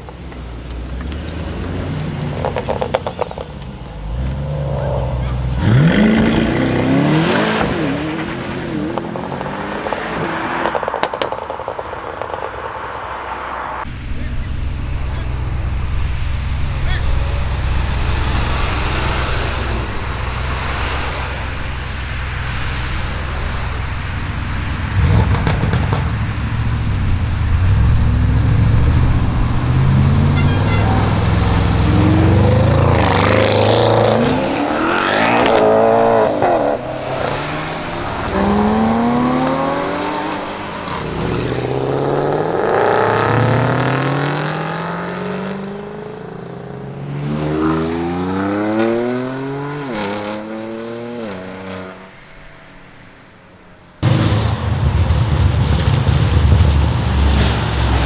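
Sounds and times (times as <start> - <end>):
car engine accelerating: 1.0 - 11.2, 13.8 - 51.7, 54.0 - 58.0.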